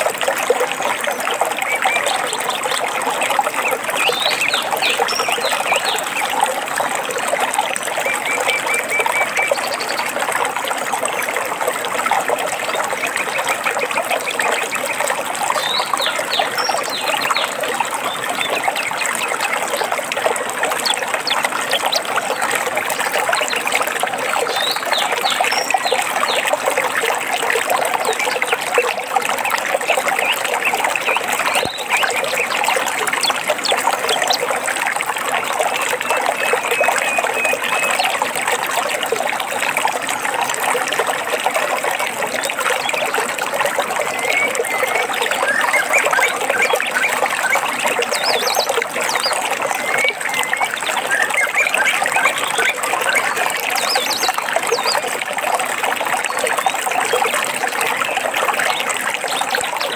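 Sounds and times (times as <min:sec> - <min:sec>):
stream burbling and trickling: 0:00.0 - 0:59.9.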